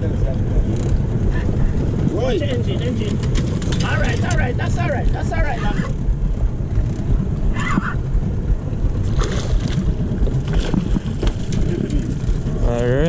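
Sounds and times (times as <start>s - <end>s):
outboard engine running: 0.0s - 13.0s
water washing along hull: 0.0s - 13.0s
wind rumble on microphone: 0.0s - 13.0s.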